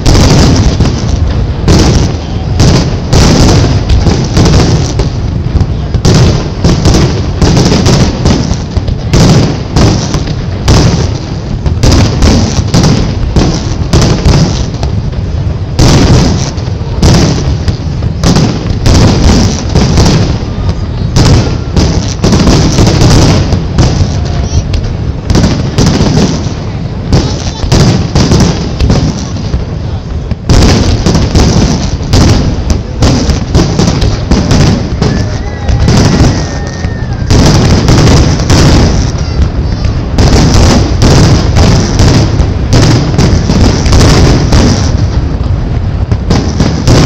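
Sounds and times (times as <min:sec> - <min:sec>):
fireworks bursting: 0:00.0 - 0:47.0.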